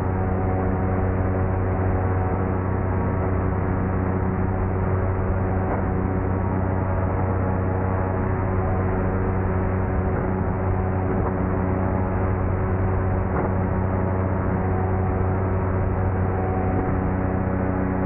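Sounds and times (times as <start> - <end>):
electric motor and propeller hum: 0.0 - 18.0.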